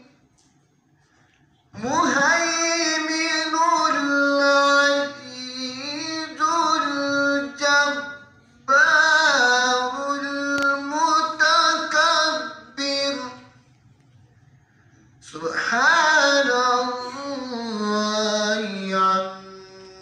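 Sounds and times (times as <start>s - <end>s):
man chanting melodically: 1.7s - 13.7s, 15.2s - 20.0s.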